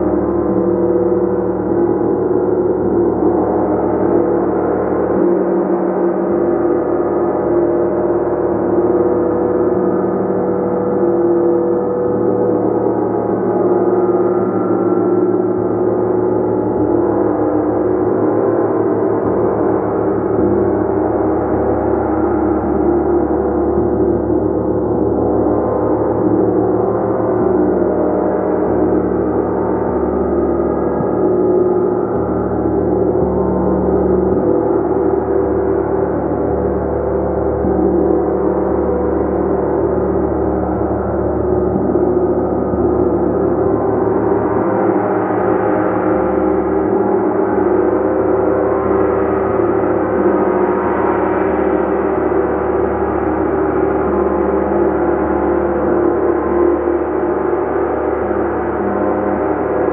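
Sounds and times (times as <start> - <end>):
gong sustained tones: 0.0 - 59.9.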